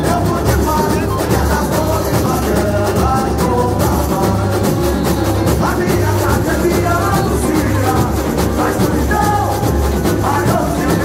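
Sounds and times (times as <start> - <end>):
person singing a melody: 0.0 - 11.0.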